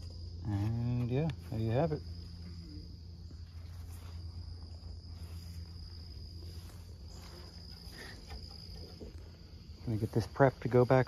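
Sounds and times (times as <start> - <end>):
insects chirring: 0.0 - 11.0
low steady hum: 0.0 - 11.0.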